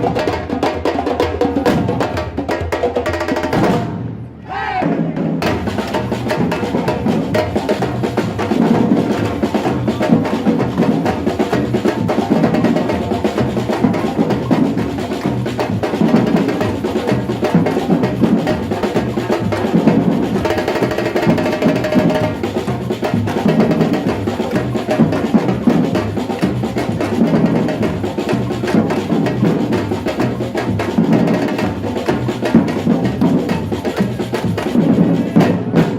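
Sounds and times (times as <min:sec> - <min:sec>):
samba percussion group drumming: 0:00.0 - 0:35.9.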